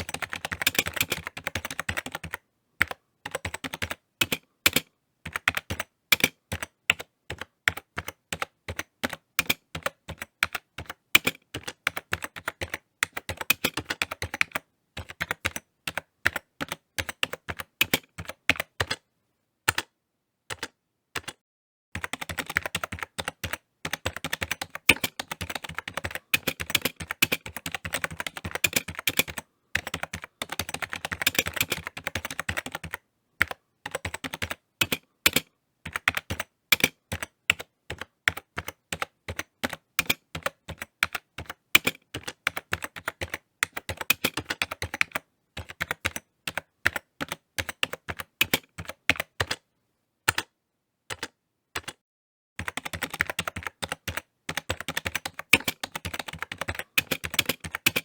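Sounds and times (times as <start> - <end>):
typing on computer keyboard: 0.0 - 19.0, 19.7 - 19.9, 20.5 - 21.4, 22.0 - 49.7, 50.3 - 52.0, 52.6 - 58.0.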